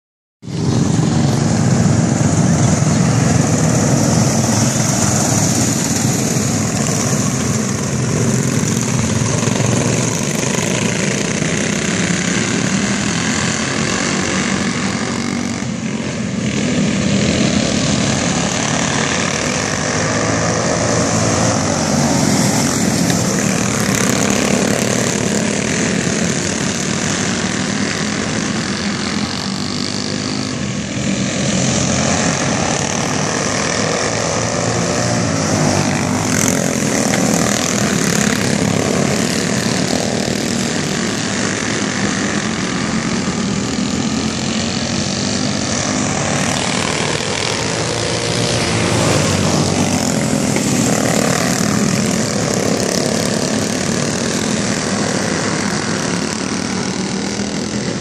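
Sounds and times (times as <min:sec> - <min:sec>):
racing car engines droning: 0:00.4 - 0:58.0.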